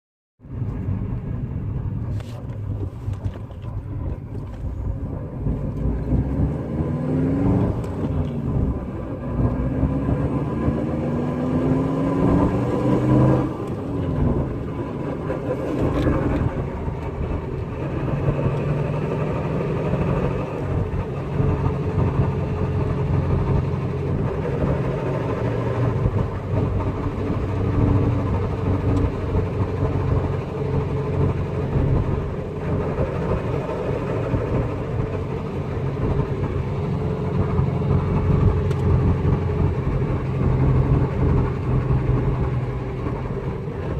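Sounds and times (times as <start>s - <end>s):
car engine revving: 0.6s - 43.9s.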